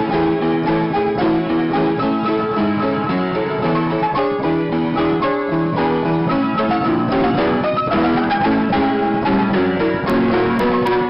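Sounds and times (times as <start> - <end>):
plucked string melody: 0.0 - 11.0.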